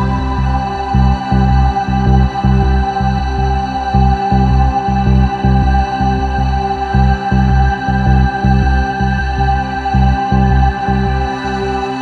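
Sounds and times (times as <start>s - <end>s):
slow ambient music: 0.0s - 12.0s.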